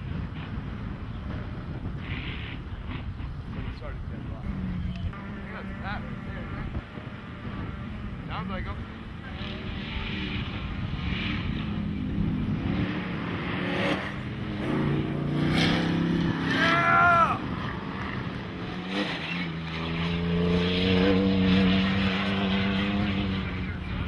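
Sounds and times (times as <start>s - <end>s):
race truck engines running hard: 0.0s - 24.0s.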